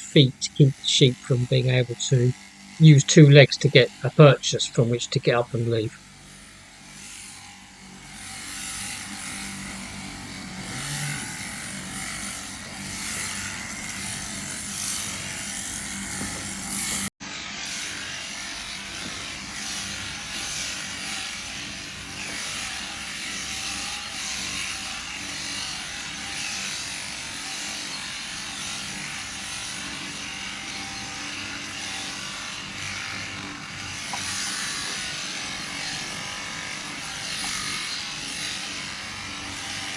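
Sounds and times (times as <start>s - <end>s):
electric shears buzzing: 0.0s - 39.9s.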